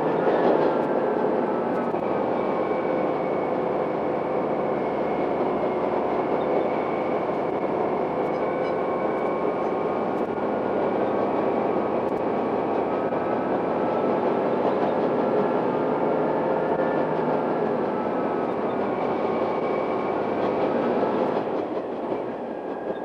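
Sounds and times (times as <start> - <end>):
railcar engine and wheels rumbling: 0.0 - 23.0.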